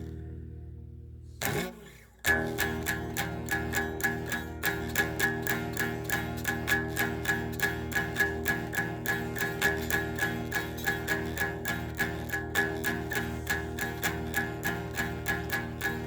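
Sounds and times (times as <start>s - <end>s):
picked guitar music: 0.0s - 16.0s.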